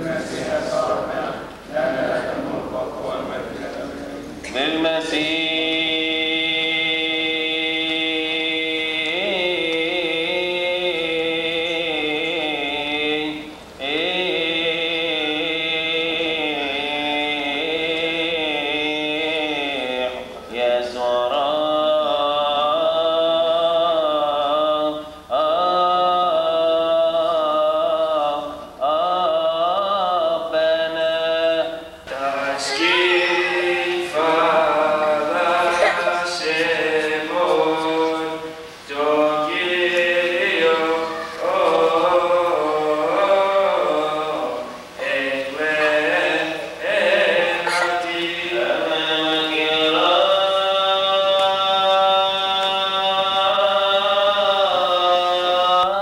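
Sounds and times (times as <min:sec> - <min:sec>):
man chanting: 0:00.0 - 0:56.0.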